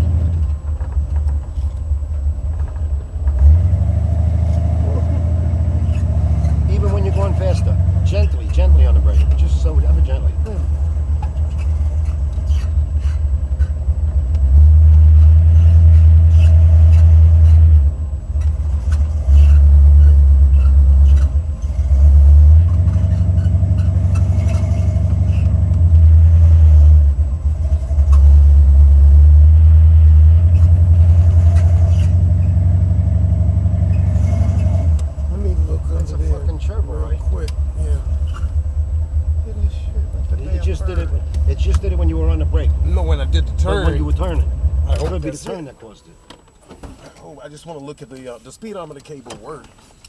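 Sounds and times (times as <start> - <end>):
car engine low rumble: 0.0 - 50.0.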